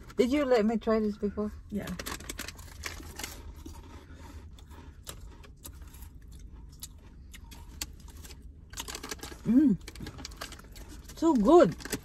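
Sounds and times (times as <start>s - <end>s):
low steady hum: 0.0s - 12.0s
snack packet crackling: 1.9s - 12.0s.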